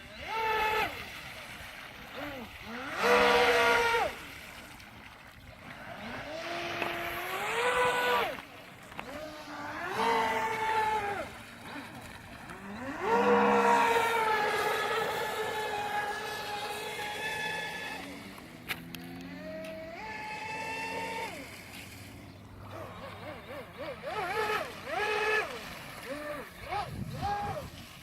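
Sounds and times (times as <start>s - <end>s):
model boat motor revving: 0.0s - 1.1s, 1.9s - 28.0s.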